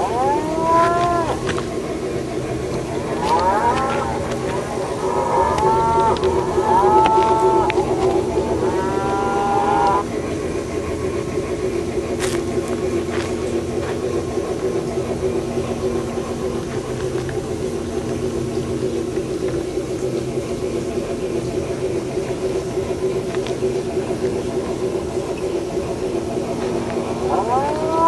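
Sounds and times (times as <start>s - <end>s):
model locomotive droning hum: 0.0s - 28.0s.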